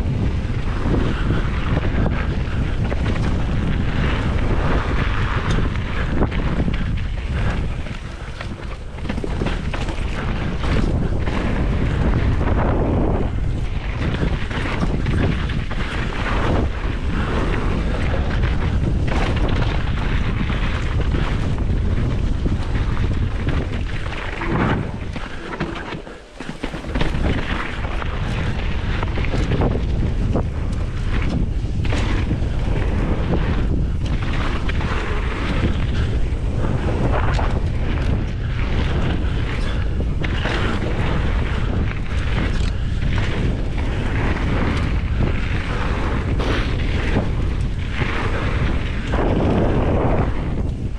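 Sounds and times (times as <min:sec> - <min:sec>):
knocks and rattles from bike: 0:00.0 - 0:50.9
wind buffeting microphone: 0:00.0 - 0:50.9.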